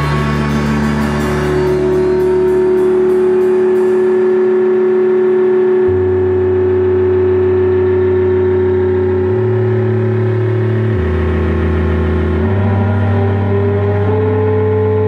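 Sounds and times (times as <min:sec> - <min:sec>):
deep bass notes: 0:00.0 - 0:15.0
synthesizer drone: 0:00.0 - 0:15.0.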